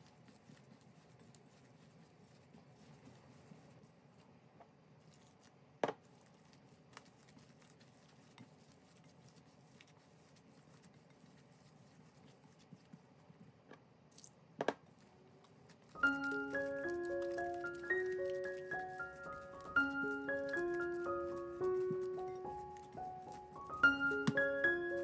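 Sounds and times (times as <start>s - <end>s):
hands kneading dough: 0.0s - 25.0s.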